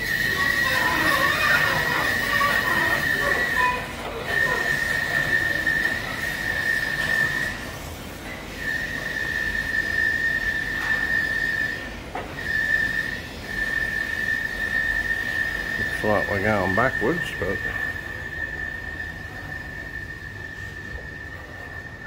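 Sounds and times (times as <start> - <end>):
steady high-pitched whine: 0.0 - 22.0.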